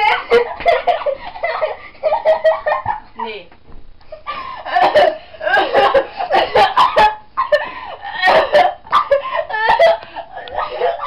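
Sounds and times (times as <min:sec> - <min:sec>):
girls laughing: 0:00.0 - 0:03.3, 0:04.1 - 0:11.0.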